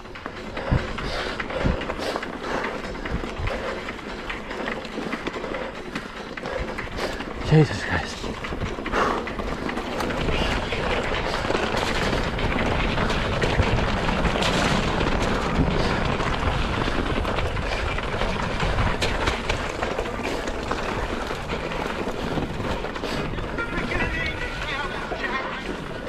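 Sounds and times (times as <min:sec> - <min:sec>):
bike rattling over bumps: 0:00.0 - 0:26.0
tyre and wind noise: 0:00.0 - 0:26.0.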